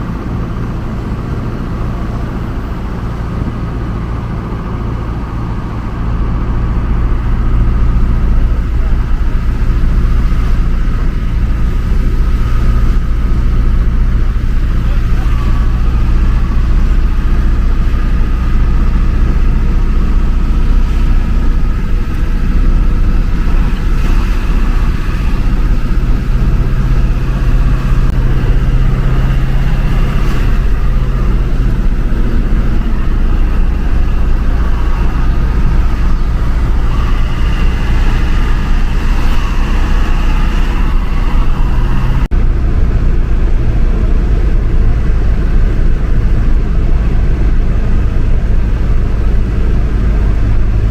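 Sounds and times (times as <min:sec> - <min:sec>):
road noise: 0:00.0 - 0:50.9
vehicle engine drone: 0:00.0 - 0:50.9.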